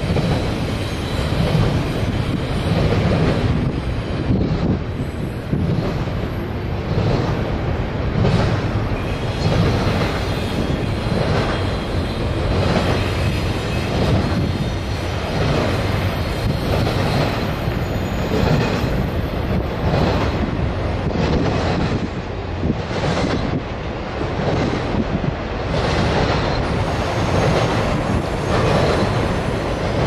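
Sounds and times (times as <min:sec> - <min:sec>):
steel wheels rumbling on rail: 0:00.0 - 0:30.0
wheels clacking over rail joints: 0:05.5 - 0:30.0.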